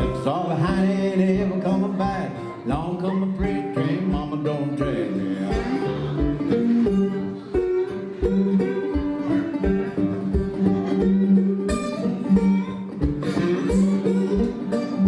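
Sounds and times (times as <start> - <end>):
acoustic guitar: 0.0 - 15.0
steady low beat: 0.0 - 15.0.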